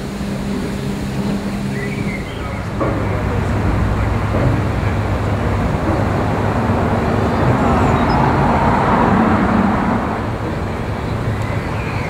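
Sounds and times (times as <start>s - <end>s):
road traffic rumbling: 0.0s - 12.0s.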